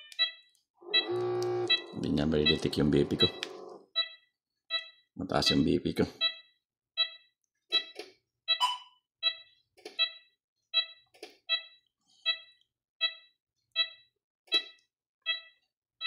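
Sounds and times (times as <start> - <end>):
patient monitor heartbeat beeps: 0.0 - 14.1.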